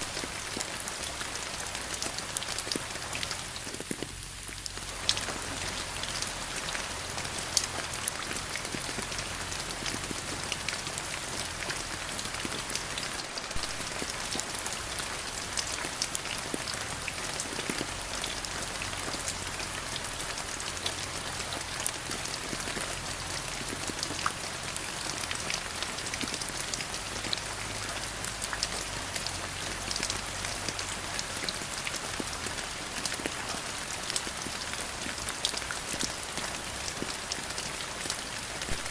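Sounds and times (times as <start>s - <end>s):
rain falling: 0.0s - 38.9s
raindrops ticking: 0.0s - 38.9s.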